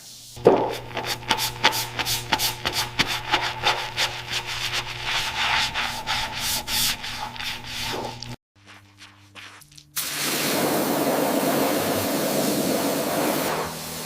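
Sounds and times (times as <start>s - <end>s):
hand sanding strokes: 0.1s - 14.0s.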